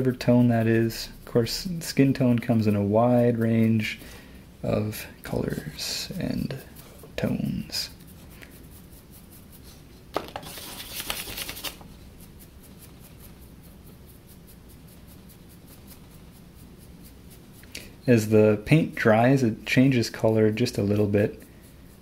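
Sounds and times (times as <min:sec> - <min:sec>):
low room hum: 0:00.0 - 0:22.0
paintbrush bristles rustling on wood: 0:00.0 - 0:22.0.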